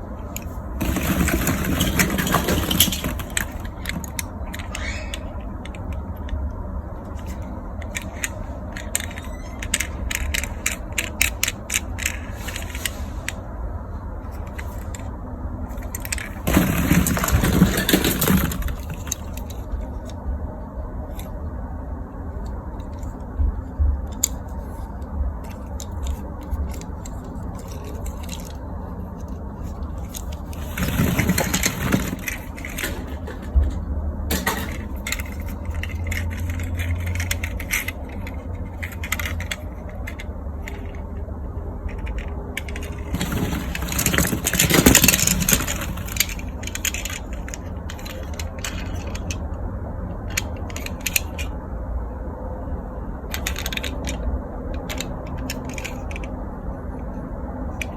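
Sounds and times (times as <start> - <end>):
toys clattering: 0.0 - 13.4, 14.2 - 20.3, 21.0 - 51.7, 53.1 - 57.9
plastic toys clicking and scraping: 0.0 - 13.6, 14.2 - 51.7, 52.7 - 57.9.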